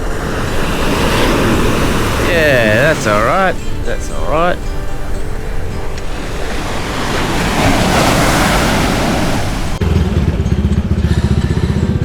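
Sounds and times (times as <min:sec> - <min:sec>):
surf: 0:00.0 - 0:09.8
wind: 0:00.0 - 0:12.0.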